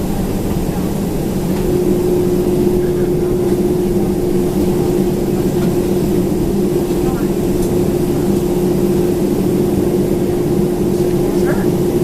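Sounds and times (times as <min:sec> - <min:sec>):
airliner cabin rumble: 0:00.0 - 0:12.0
higher steady hum: 0:00.0 - 0:12.0.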